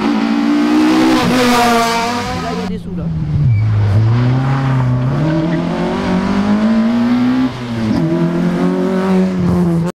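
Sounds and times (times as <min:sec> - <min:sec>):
car engine accelerating: 0:00.0 - 0:09.9.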